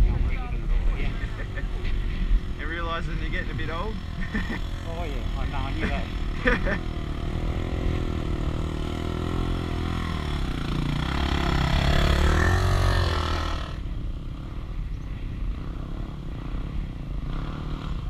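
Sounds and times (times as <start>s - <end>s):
dirt bike riding past: 0.0s - 18.0s.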